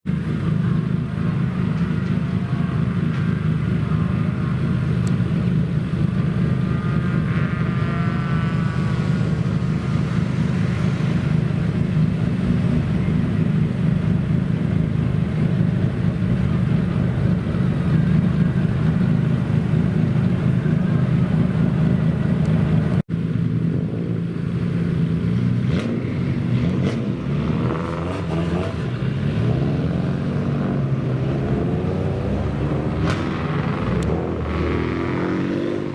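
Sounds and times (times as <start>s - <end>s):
car engines rumbling: 0.0s - 35.9s.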